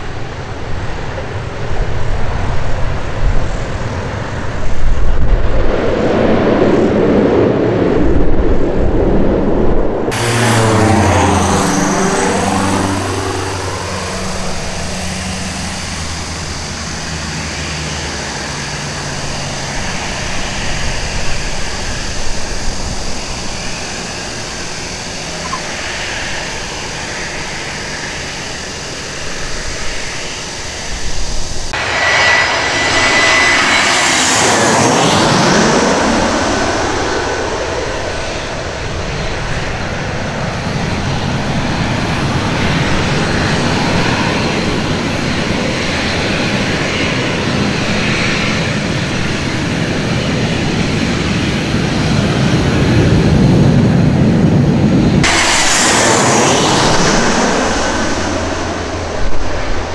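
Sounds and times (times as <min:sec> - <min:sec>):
jet airliner approaching: 0:00.0 - 0:59.9
propeller engines droning: 0:00.0 - 0:59.9
turboprop airliner rolling on runway: 0:00.0 - 0:59.9.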